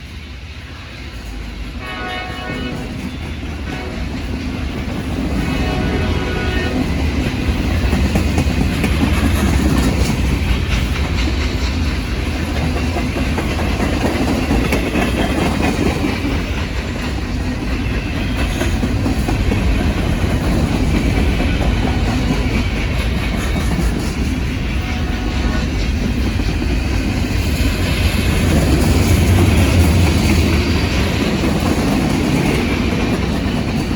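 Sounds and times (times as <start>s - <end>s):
freight train rumbling: 0.0s - 33.9s
wheels clacking over rail joints: 2.4s - 33.9s.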